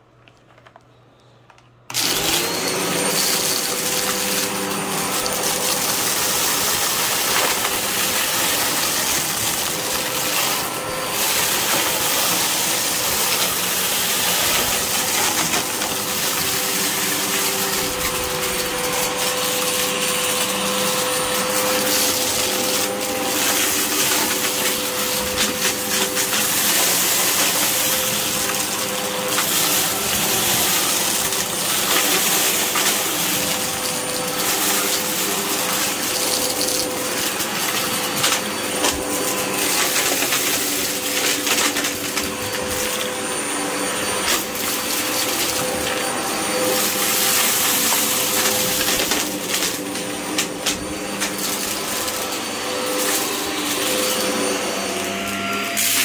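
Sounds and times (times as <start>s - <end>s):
upright vacuum cleaner running: 1.9s - 56.0s.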